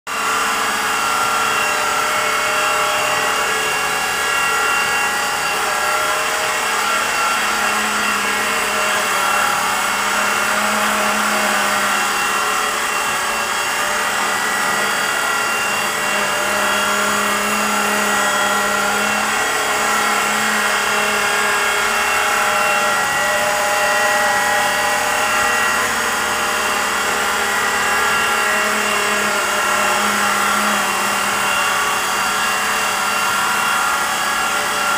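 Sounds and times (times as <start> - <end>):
rc helicopter motor whine: 0.1 - 34.9.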